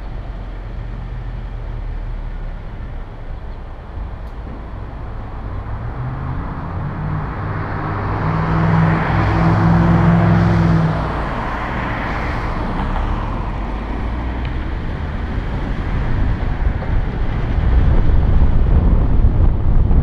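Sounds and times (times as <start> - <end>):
road traffic noise: 0.0 - 20.0
vehicle engine hum: 0.0 - 20.0
wind rumble on microphone: 0.0 - 20.0.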